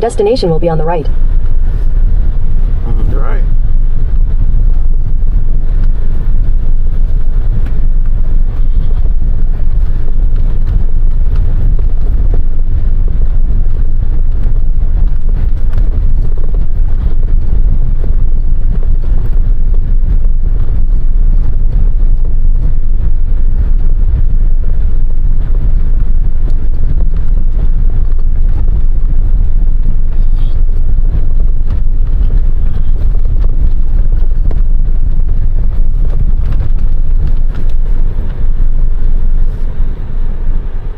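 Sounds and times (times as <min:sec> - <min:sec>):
road rumble: 0:00.0 - 0:40.9
truck diesel engine droning: 0:00.0 - 0:40.9.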